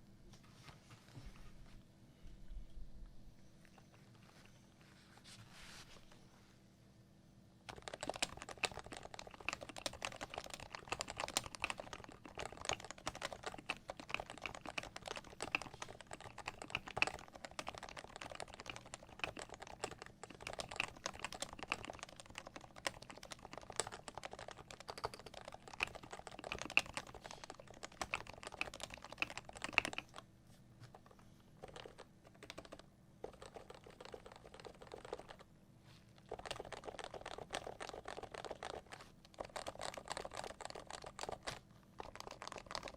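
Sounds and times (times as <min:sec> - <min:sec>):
fast keyboard typing: 0:07.7 - 0:35.5, 0:36.2 - 0:42.9.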